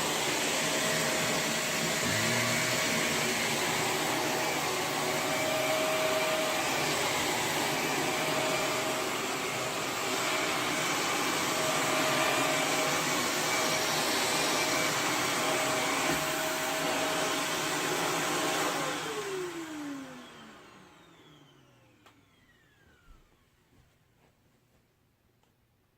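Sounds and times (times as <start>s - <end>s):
vacuum motor winding down: 0.0s - 23.4s
vacuum cleaner whining: 0.0s - 23.6s.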